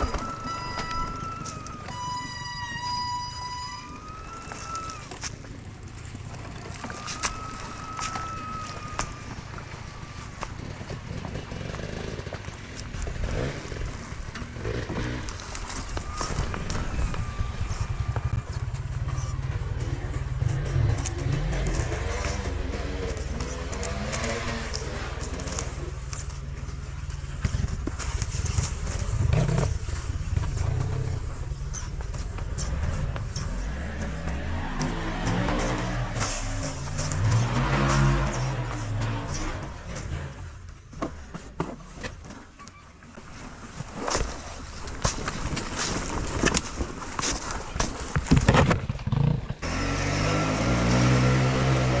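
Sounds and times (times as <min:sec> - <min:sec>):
motorcycle engine running: 0:00.0 - 0:42.0, 0:47.2 - 0:52.0.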